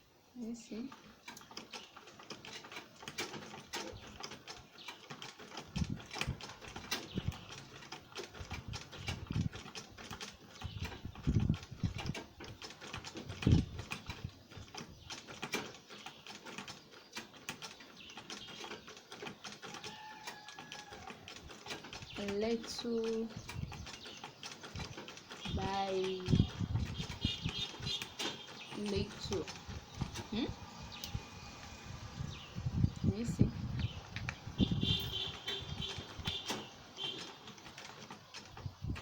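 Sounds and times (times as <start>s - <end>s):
sewing machine clicking: 0.9s - 39.0s.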